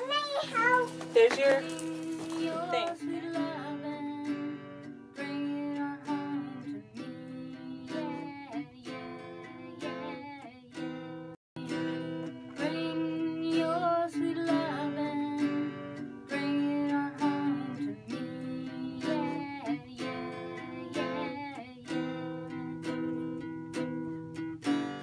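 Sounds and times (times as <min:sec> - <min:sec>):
person singing: 0:00.0 - 0:04.6, 0:05.2 - 0:10.8, 0:11.6 - 0:23.0
acoustic guitar: 0:00.0 - 0:25.0.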